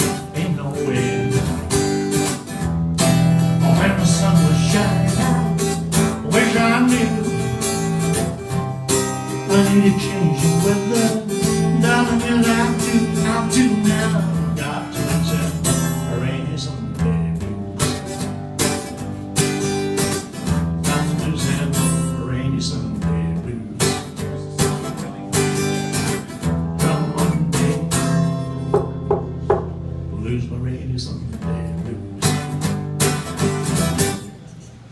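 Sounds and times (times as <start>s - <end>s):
acoustic guitar strumming: 0.0s - 34.9s.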